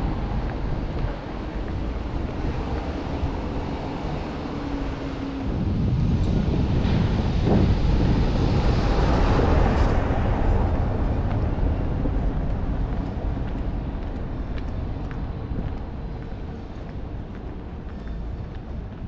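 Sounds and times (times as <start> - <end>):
road vehicle passing: 0.0 - 17.8.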